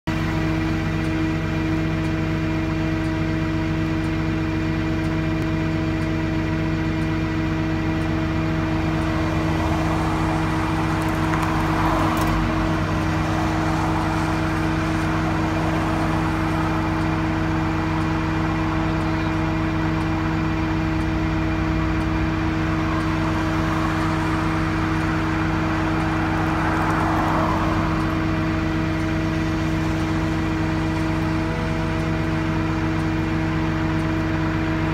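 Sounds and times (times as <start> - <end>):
vehicle engine idling: 0.0 - 34.9
cars passing: 0.1 - 34.9.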